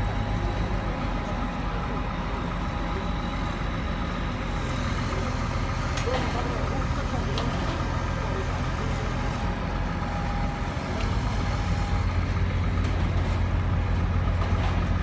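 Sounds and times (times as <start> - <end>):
crane diesel engine running: 0.0 - 15.0.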